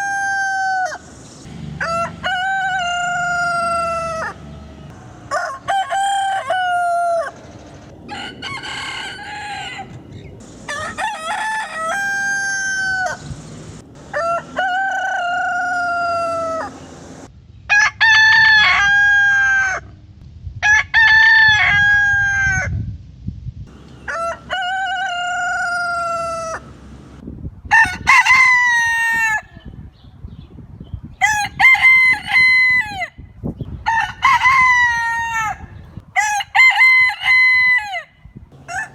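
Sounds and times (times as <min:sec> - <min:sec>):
roosters crowing: 0:00.0 - 0:20.0, 0:20.6 - 0:22.7, 0:23.7 - 0:29.9, 0:31.2 - 0:38.9.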